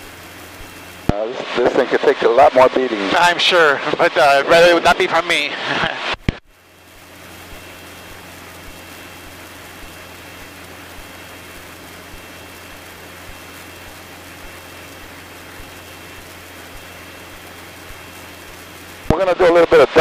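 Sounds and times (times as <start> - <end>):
airplane engine rushing in cabin: 0.0 - 20.0.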